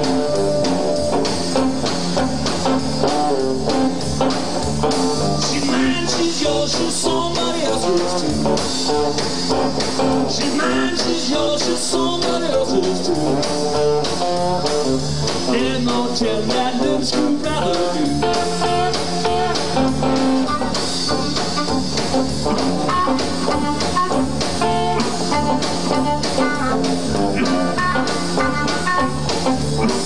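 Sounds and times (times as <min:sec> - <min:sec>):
bass guitar: 0:00.0 - 0:30.0
drums: 0:00.0 - 0:30.0
electric guitar: 0:00.0 - 0:30.0.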